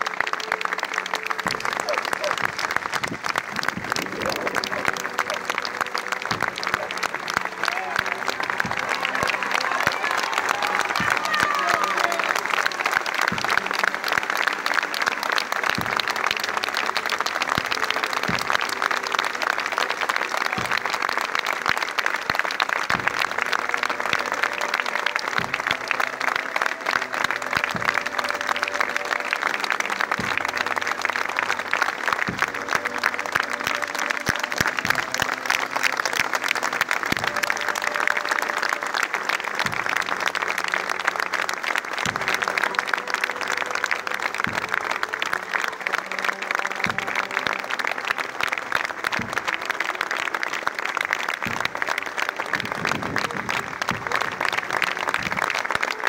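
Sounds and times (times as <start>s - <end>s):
crowd applauding: 0.0s - 56.0s.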